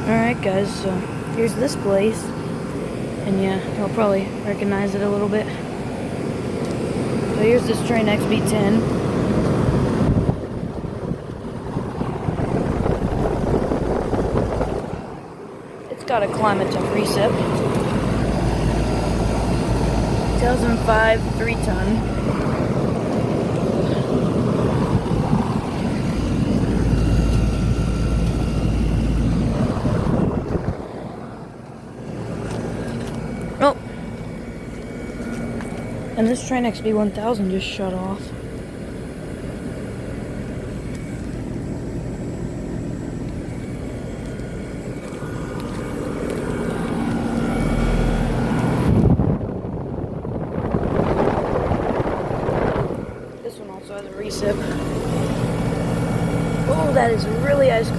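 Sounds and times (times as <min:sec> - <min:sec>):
air conditioner whir and hum: 0:00.0 - 0:57.9.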